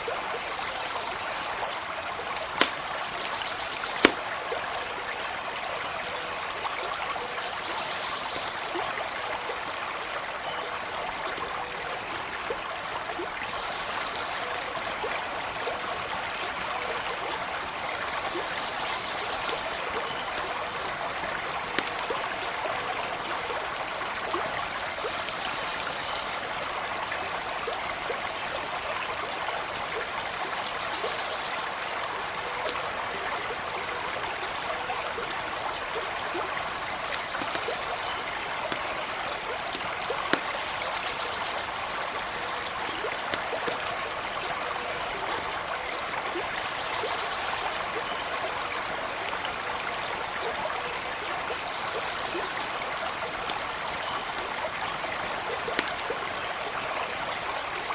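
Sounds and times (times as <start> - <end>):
stream water running: 0.0 - 57.9
campfire crackling and popping: 0.5 - 57.8.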